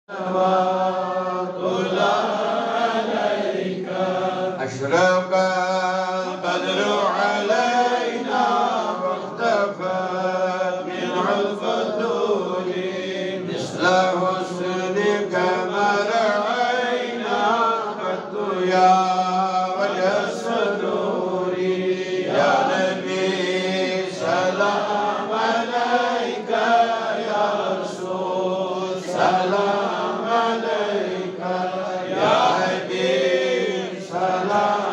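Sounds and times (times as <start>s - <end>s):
man chanting devotional recitation: 3.8s - 34.9s.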